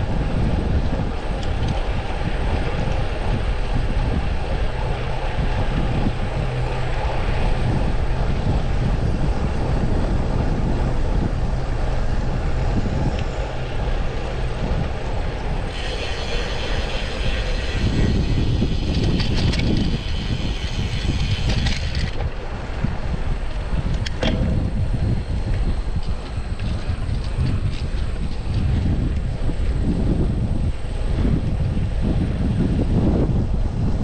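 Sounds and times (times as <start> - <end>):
road and traffic noise: 0.0 - 34.0
steady low hum: 0.0 - 34.0
wind rushing over microphone: 0.0 - 34.0.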